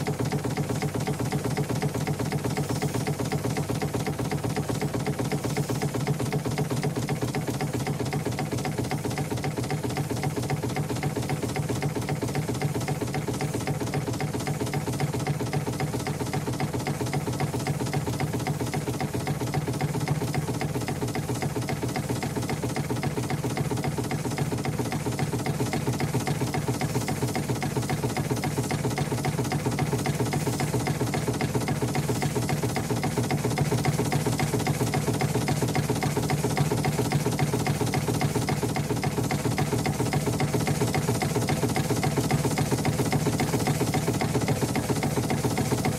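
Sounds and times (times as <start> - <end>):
steam engine beating: 0.0 - 45.9.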